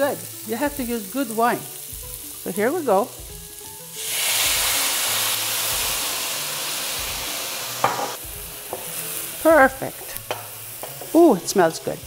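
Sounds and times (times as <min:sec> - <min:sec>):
wine sizzling in a hot pan: 0:00.0 - 0:12.0.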